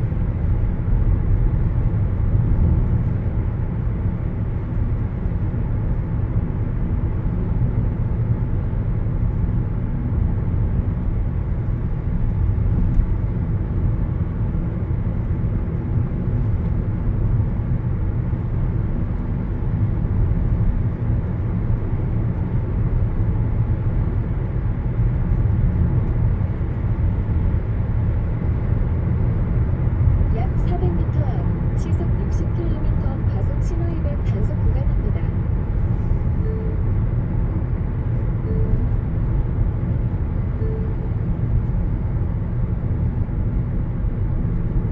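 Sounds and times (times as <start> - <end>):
car cabin road rumble: 0.0 - 44.9.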